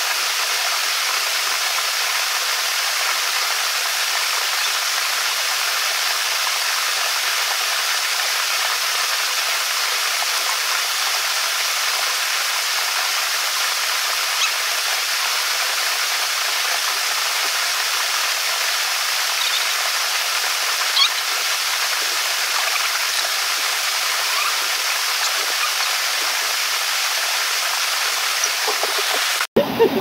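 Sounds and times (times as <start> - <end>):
waterfall rushing into pool: 0.0 - 30.0.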